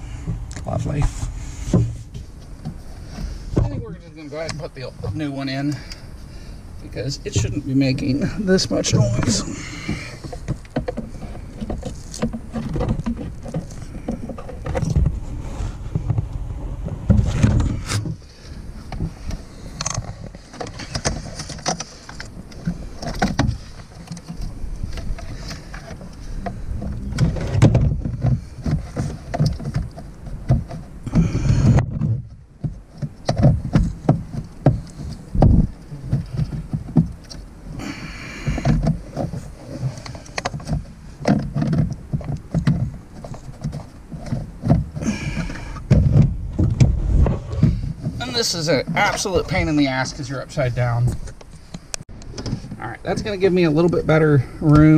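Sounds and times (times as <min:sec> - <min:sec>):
rustling: 0:00.0 - 0:54.9
plastic parts knocking and scraping: 0:00.1 - 0:06.0, 0:07.0 - 0:54.9.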